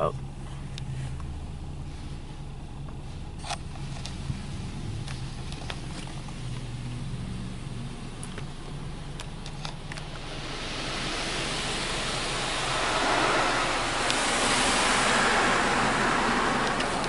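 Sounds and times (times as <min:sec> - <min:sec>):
car wash water spraying: 0:00.0 - 0:17.0.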